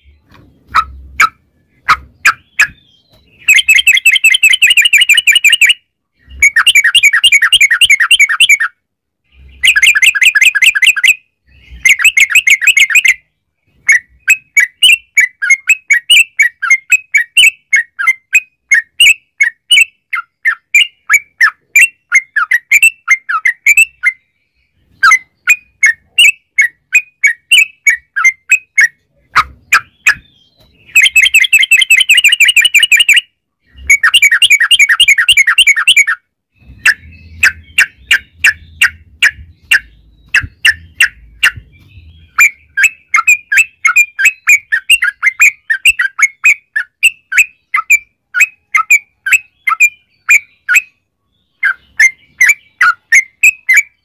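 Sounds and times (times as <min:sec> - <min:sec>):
bulbul singing chattering trills: 0:00.0 - 0:54.0.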